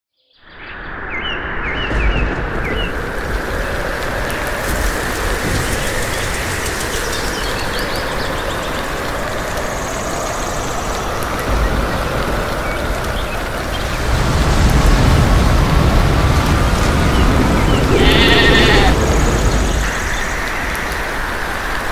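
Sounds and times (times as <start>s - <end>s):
gusting wind: 0.7s - 21.9s
heavy rain: 1.9s - 21.9s
low thunder rumble: 1.9s - 21.9s.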